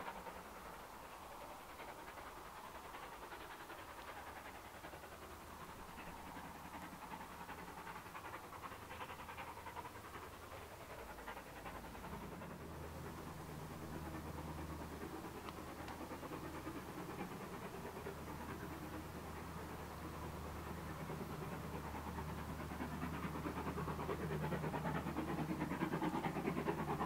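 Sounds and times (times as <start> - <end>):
distant steam locomotive exhaust beats: 0.0 - 27.0.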